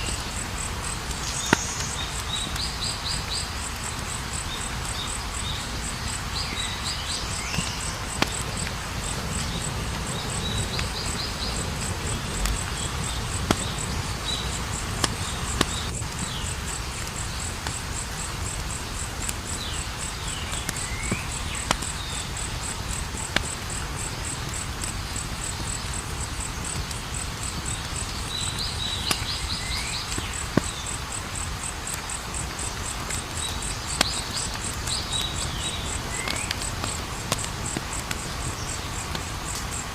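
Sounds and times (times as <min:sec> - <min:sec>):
campfire crackling: 0:00.0 - 0:39.9
cricket chirping: 0:00.0 - 0:39.9.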